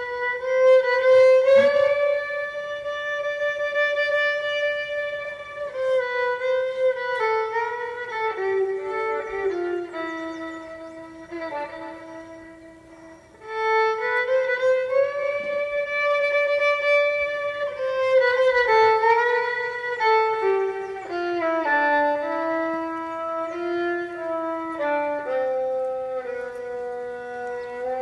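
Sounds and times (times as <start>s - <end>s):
violin playing slow melody: 0.0s - 28.0s.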